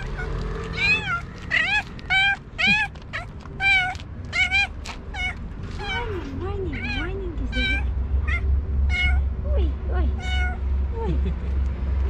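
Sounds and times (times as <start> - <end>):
cat meowing rapidly: 0.0 - 9.2, 10.1 - 10.6.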